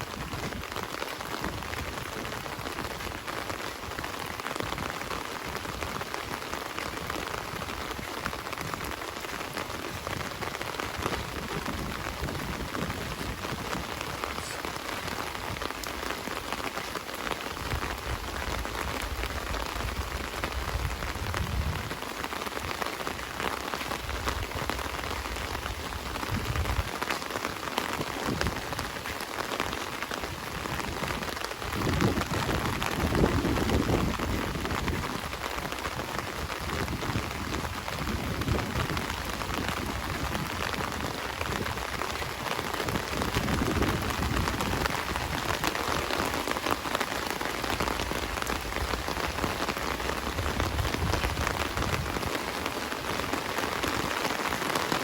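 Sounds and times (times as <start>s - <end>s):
heavy rain splattering: 0.0s - 55.0s.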